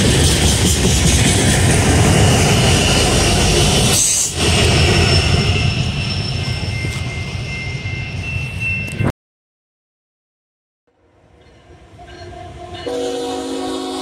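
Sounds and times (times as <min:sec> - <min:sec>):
freight train passing: 0:00.0 - 0:09.1, 0:10.9 - 0:14.0.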